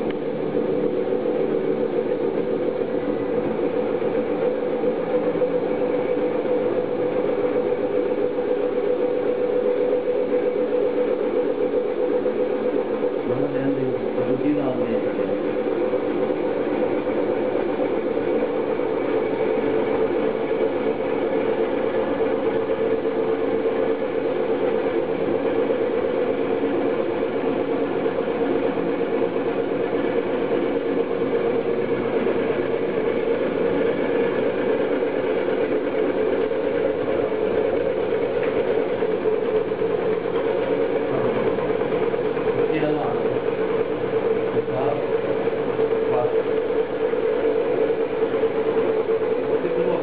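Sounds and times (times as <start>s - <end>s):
magnet motor humming: 0.0s - 50.0s.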